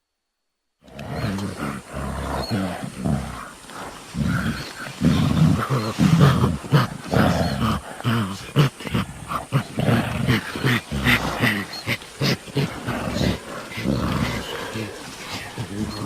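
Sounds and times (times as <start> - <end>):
gorilla howling: 0.9 - 16.0.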